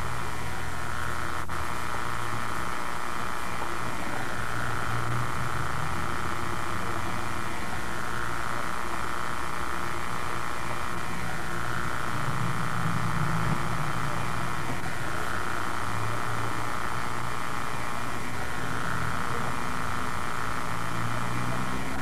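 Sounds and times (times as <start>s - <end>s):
faint steady tones: 0.0s - 22.0s.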